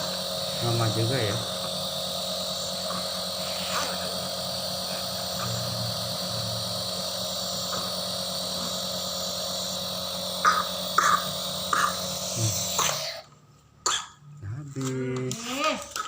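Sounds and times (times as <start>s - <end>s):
nebulizer compressor humming: 0.0s - 16.0s.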